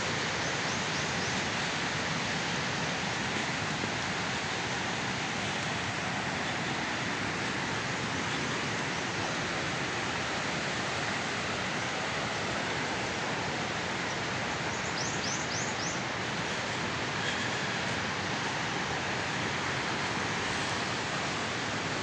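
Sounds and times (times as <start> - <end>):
river flowing over stones: 0.0 - 22.0.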